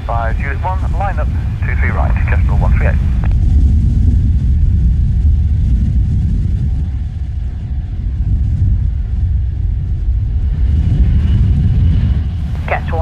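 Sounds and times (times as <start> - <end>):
jet engine rumble: 0.0 - 13.0
wind buffeting microphone: 0.0 - 13.0.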